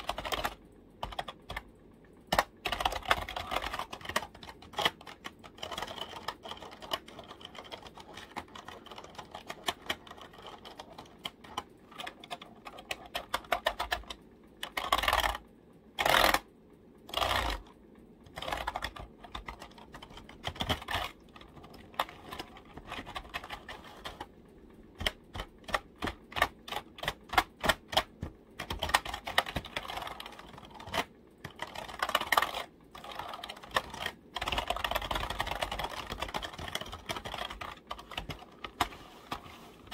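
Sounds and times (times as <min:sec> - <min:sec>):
keyboard typing: 0:00.0 - 0:01.7, 0:02.3 - 0:15.4, 0:16.0 - 0:16.4, 0:17.1 - 0:39.9.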